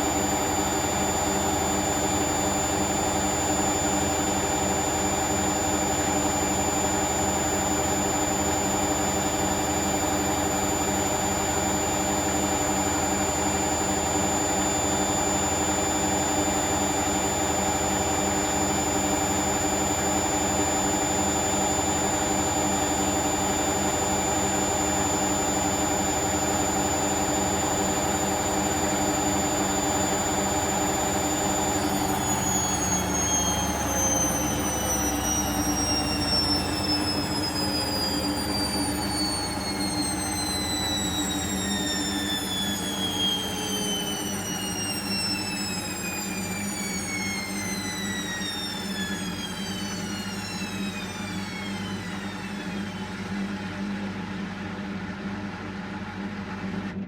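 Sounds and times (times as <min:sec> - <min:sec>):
high-pitched whine: 0:00.0 - 0:53.9
washing machine spinning: 0:00.0 - 0:57.0.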